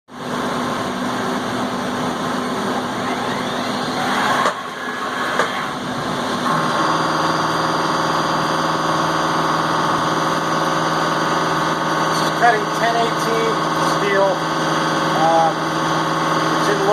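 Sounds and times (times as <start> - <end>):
milling machine running with whine: 0.1 - 16.9.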